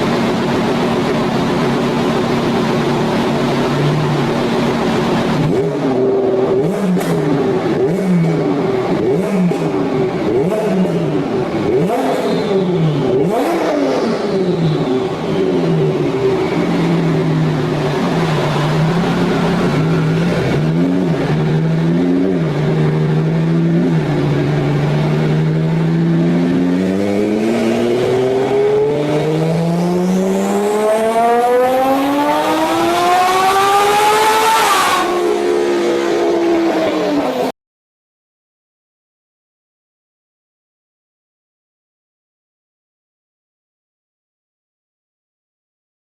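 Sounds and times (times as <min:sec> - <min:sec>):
car engine revving on dyno: 0:00.0 - 0:37.5.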